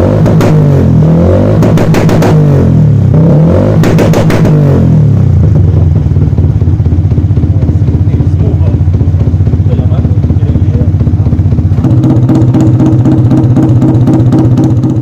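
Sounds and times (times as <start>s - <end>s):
motorcycle engine revving: 0.0s - 15.0s
motorcycle idling: 2.5s - 15.0s.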